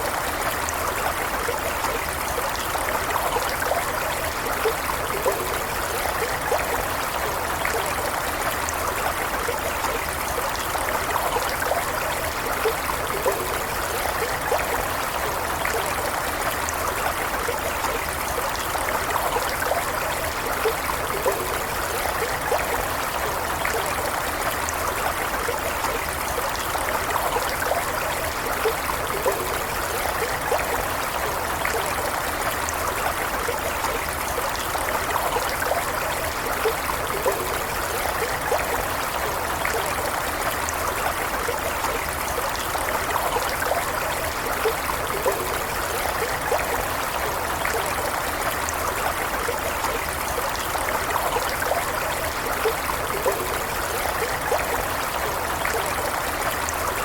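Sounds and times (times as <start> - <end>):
stream water over stones: 0.0 - 57.0.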